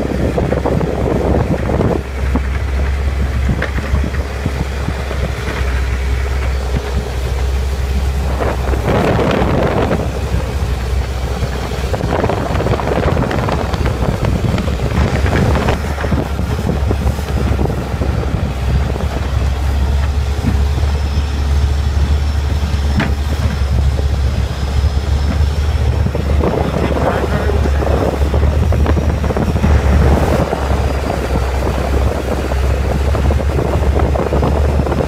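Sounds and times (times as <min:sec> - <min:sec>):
boat engine droning: 0:00.0 - 0:35.0
wind gusting on microphone: 0:00.0 - 0:35.0.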